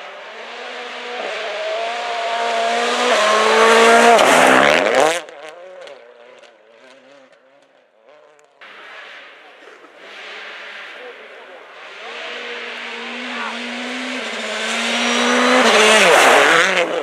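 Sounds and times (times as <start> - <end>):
rally car engine passing: 0.0 - 17.0.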